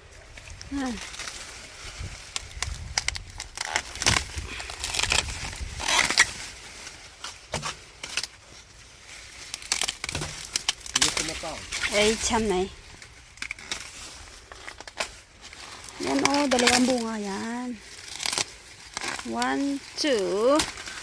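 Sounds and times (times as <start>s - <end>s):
dry corn leaves rustling: 0.0s - 21.0s
sharp crunches and snaps: 0.3s - 21.0s.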